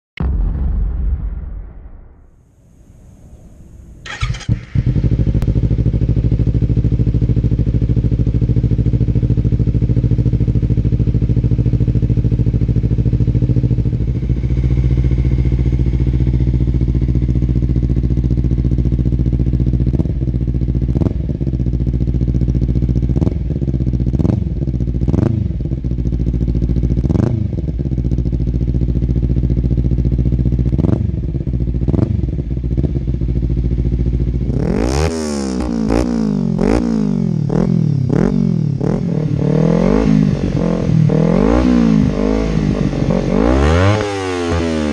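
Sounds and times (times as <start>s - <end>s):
motorcycle engine idling and revving: 3.8s - 44.9s.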